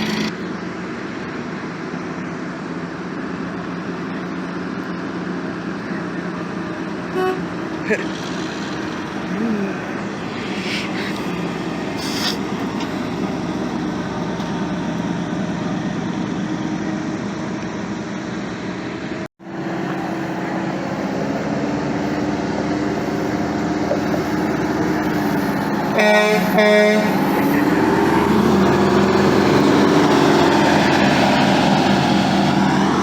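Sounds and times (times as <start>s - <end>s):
truck engines droning: 0.0s - 33.0s.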